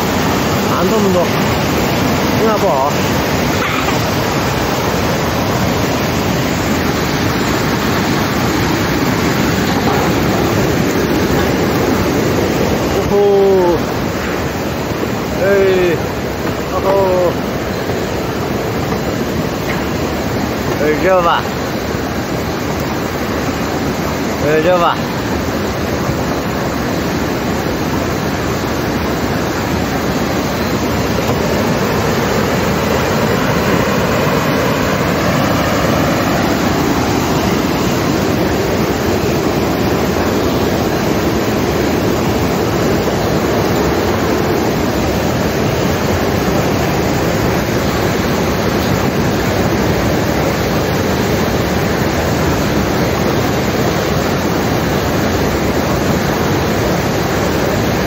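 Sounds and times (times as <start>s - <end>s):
rush of flowing water: 0.0s - 58.0s.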